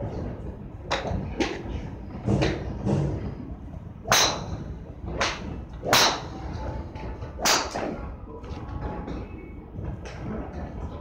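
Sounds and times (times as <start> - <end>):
golf clubs striking balls: 0.1 - 10.8.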